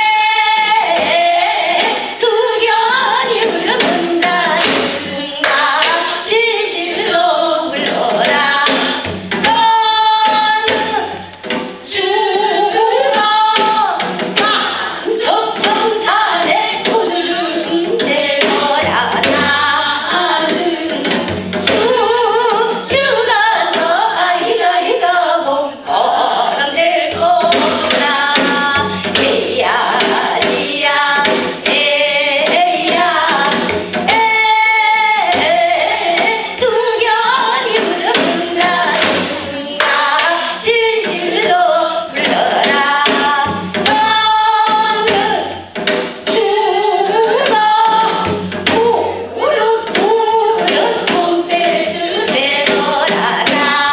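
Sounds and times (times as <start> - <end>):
drum beaten steadily: 0.0 - 53.9
women singing together: 0.0 - 53.9.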